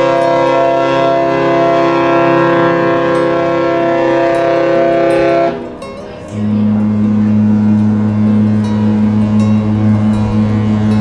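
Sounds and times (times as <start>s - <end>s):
ship's horn blast: 0.0s - 11.0s.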